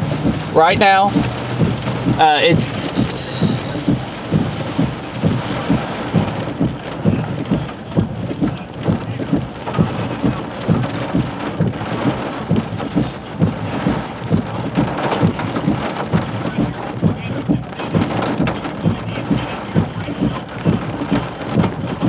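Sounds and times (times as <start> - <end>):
dull low thumps: 0.0 - 22.0
heavy rain pelting down: 0.0 - 22.0.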